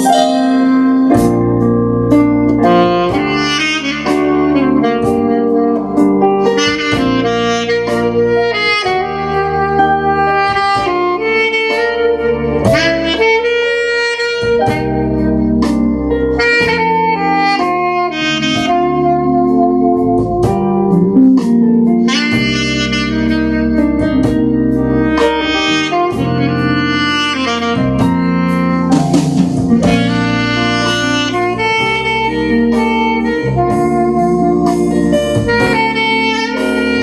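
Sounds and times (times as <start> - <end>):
band playing: 0.0 - 37.0
soprano saxophone melody: 0.0 - 37.0.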